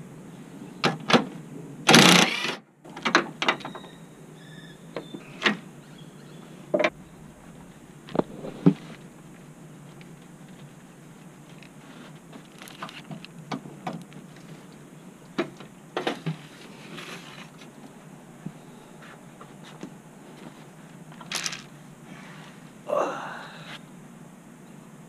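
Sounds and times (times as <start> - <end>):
rustle: 0.1 - 22.9.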